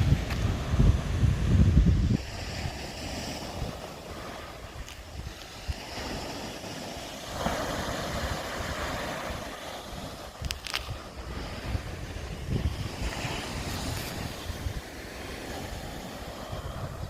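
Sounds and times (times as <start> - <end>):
surf on shingle beach: 0.0 - 17.0
wind buffeting microphone: 0.0 - 17.0.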